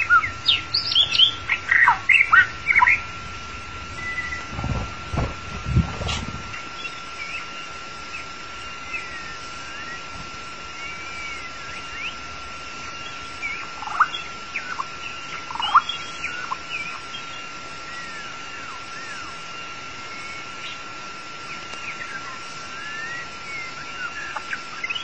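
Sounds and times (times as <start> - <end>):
bird whistling song: 0.0 - 3.1, 4.0 - 4.5, 6.5 - 10.1, 10.7 - 12.2, 12.8 - 20.8, 21.4 - 25.0.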